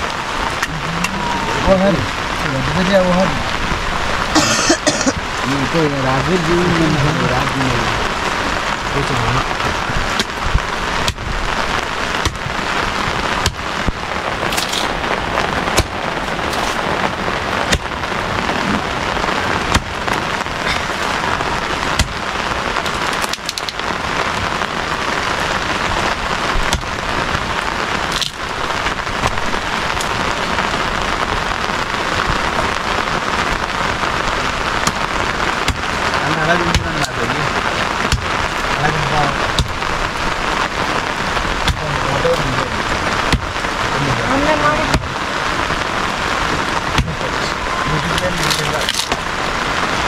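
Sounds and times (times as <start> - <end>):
rain on a tarpaulin: 0.0 - 50.0.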